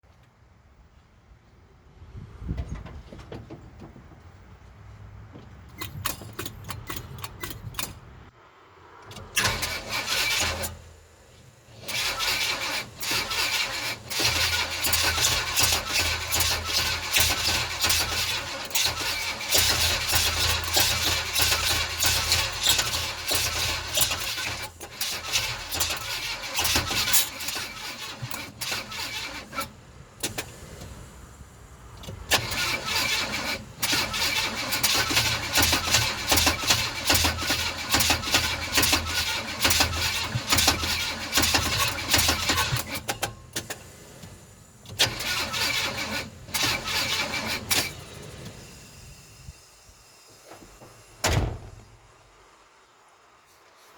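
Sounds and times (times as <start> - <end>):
engine cranking on starter: 5.7 - 8.1, 8.9 - 52.4.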